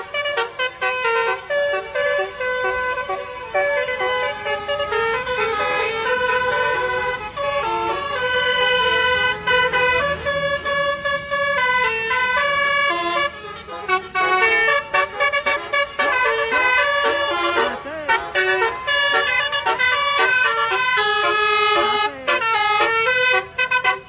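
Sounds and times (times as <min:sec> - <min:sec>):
bus horn playing a melody: 0:00.0 - 0:24.0.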